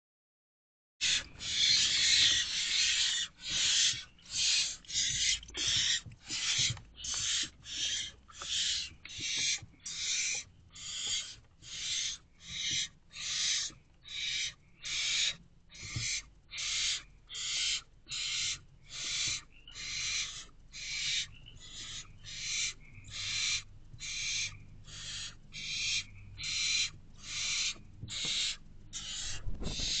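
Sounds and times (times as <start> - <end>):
owlets rasping hiss calls: 1.0 - 30.0.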